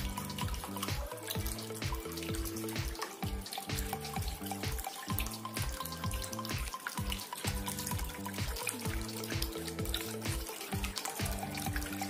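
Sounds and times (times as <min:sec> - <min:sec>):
fountain water trickling: 0:00.0 - 0:12.0
music with a steady beat: 0:00.0 - 0:12.0.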